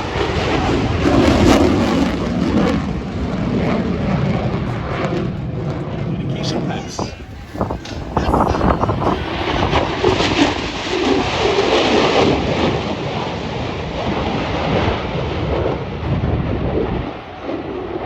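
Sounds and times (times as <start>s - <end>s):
fighter jet roaring past: 0.0s - 18.0s.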